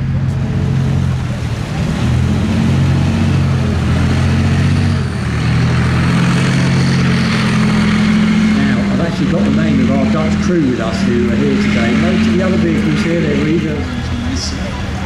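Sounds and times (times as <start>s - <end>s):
tank diesel engine driving past: 0.0s - 15.0s.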